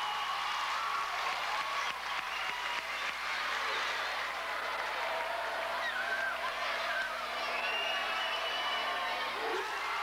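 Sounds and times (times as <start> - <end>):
crowd yelling and chattering: 0.0 - 10.0.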